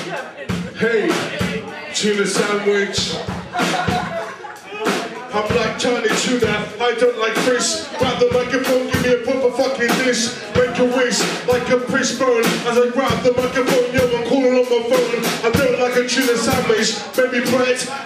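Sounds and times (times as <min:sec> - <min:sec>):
drum kit steady beat: 0:00.0 - 0:18.0
man rapping into microphone: 0:00.0 - 0:18.0.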